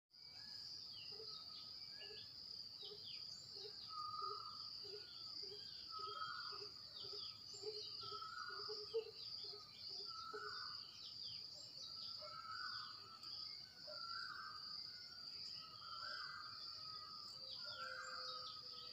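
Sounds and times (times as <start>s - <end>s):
bird chirps: 0.2s - 18.9s.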